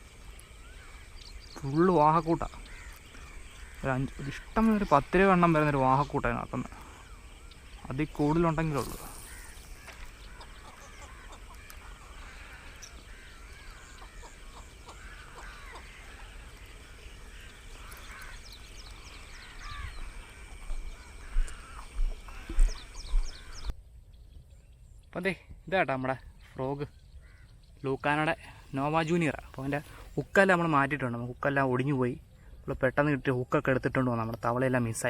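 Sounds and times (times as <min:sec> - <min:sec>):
birds calling and chattering: 0:00.0 - 0:35.0.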